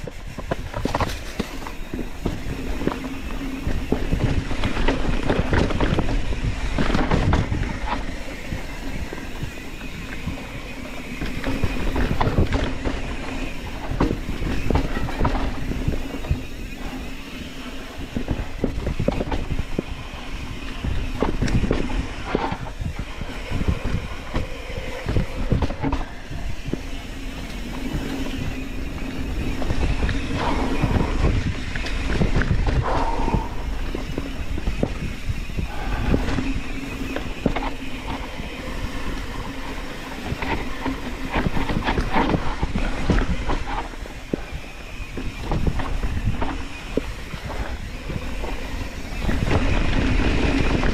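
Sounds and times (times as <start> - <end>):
bike chain and frame rattling: 0.0 - 50.9
bike tyres on dirt trail: 0.0 - 50.9
wind on microphone: 0.0 - 50.9.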